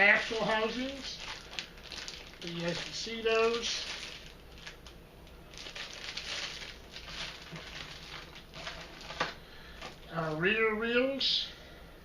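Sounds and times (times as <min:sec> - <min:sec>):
plastic bags rustling: 0:00.0 - 0:10.5.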